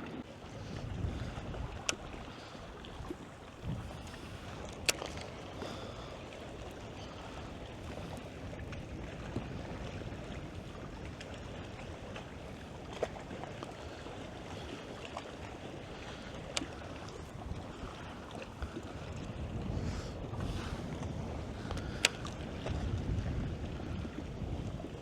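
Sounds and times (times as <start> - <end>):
water noise: 0.0 - 25.0
wind buffeting microphone: 0.0 - 25.0.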